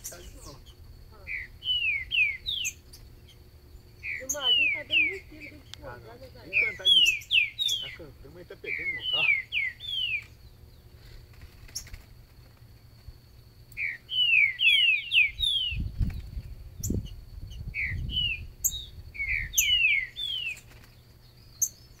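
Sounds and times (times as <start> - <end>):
bird singing whistled notes: 0.0 - 8.0, 8.6 - 10.9, 13.7 - 22.0.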